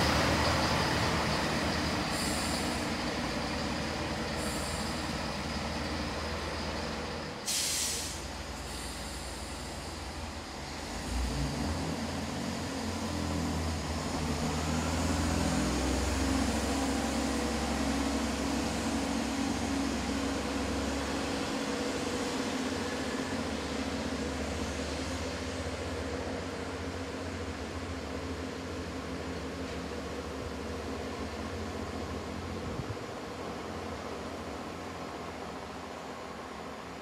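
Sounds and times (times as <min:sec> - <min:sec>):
diesel train engines droning: 0:00.0 - 0:37.0.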